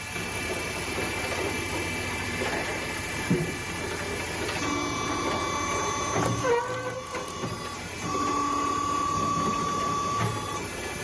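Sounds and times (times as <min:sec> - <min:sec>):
wood-processing machinery running: 0:00.0 - 0:11.0.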